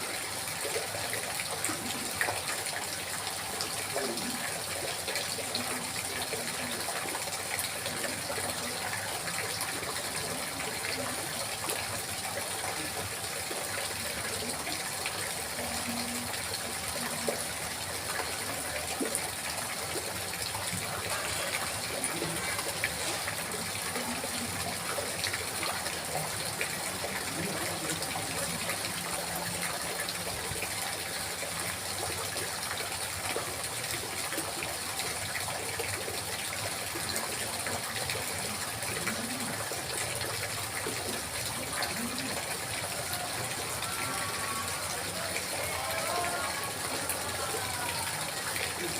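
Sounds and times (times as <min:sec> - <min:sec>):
water trickling and gurgling: 0:00.0 - 0:48.9.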